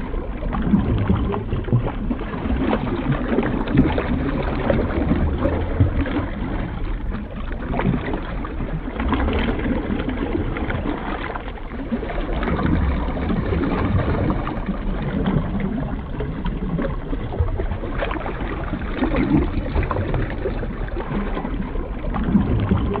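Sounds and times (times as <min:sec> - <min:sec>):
muffled underwater churning water: 0:00.0 - 0:23.0
splashes and bubbles: 0:00.0 - 0:23.0.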